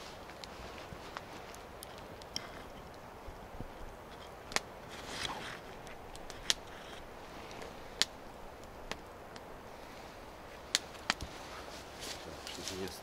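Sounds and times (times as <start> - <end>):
burning wood popping: 0.0 - 13.0
campfire hissing: 0.0 - 13.0.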